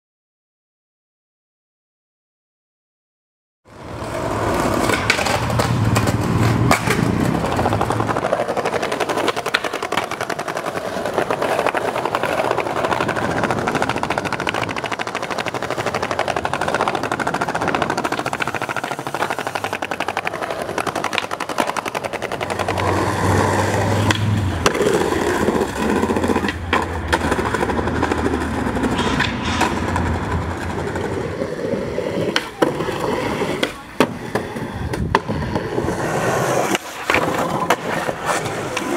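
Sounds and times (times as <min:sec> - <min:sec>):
skateboard wheels rolling on stone: 0:03.7 - 0:38.9
skateboard popping and landing: 0:03.8 - 0:38.9.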